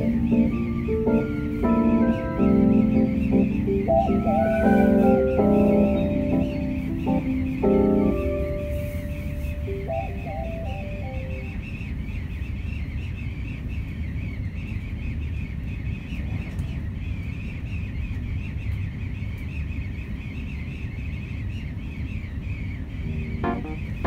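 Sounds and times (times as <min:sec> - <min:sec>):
train rumbling: 0:00.0 - 0:24.0
wind whistling: 0:00.0 - 0:24.0.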